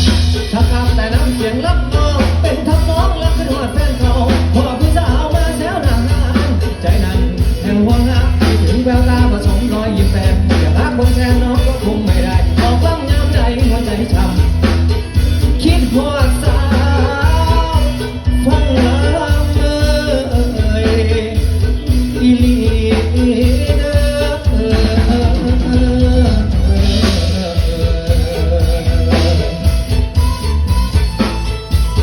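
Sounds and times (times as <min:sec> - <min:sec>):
bass and drums: 0:00.0 - 0:32.0
gliding melodic lead: 0:00.0 - 0:32.0
live band playing: 0:00.0 - 0:32.0.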